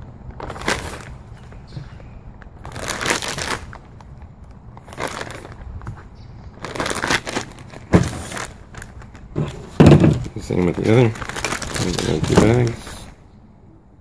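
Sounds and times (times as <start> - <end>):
plastic bag crinkling: 0.3 - 13.2.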